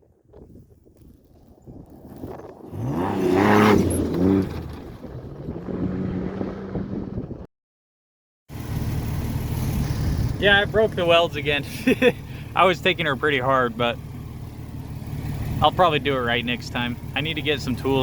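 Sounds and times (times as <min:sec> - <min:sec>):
truck engine revving: 0:02.1 - 0:07.5, 0:08.8 - 0:18.0.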